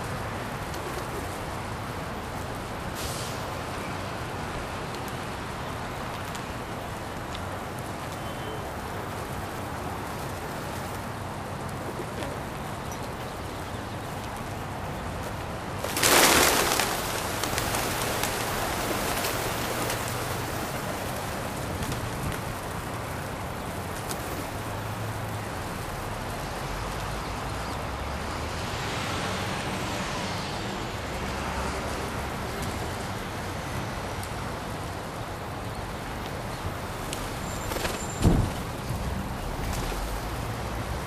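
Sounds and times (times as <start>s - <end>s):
distant traffic: 0.0s - 41.0s.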